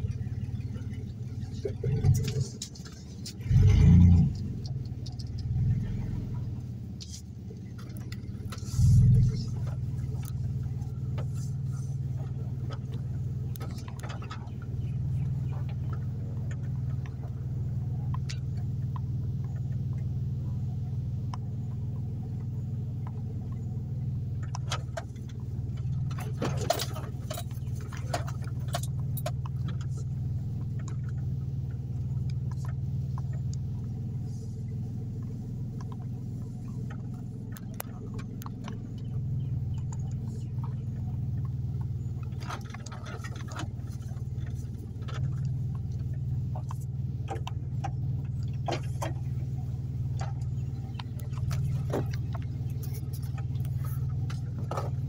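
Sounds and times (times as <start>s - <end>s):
car engine and tyres rumbling: 0.0s - 55.0s
light clicking and jingling: 6.9s - 55.0s.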